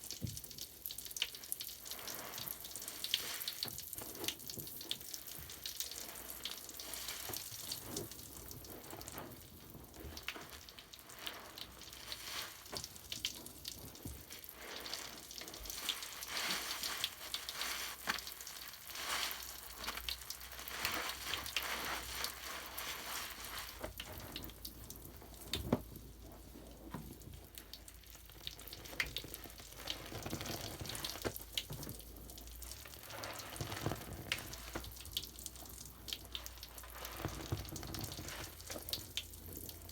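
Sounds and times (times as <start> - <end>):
bubble foam crackling and popping: 0.0 - 39.9.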